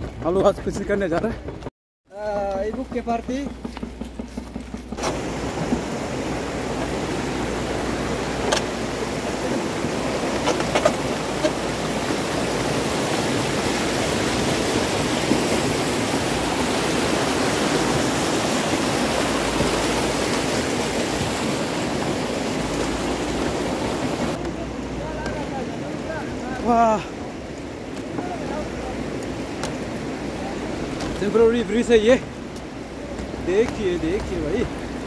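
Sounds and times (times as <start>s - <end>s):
river rushing over boulders: 4.9s - 35.0s.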